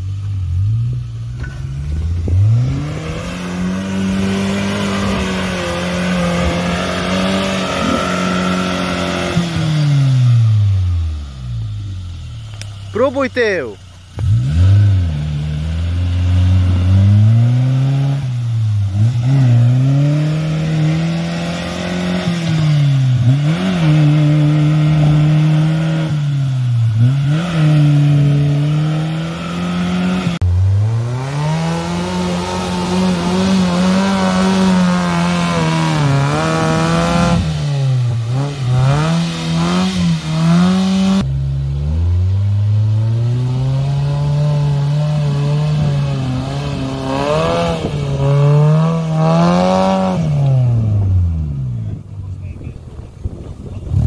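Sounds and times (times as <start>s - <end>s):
engine revving hard: 1.8s - 11.1s, 13.0s - 52.8s.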